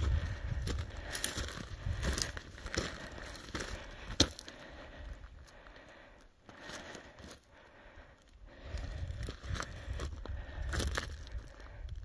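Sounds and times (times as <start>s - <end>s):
footsteps crunching on rocky ground: 0.0s - 12.0s.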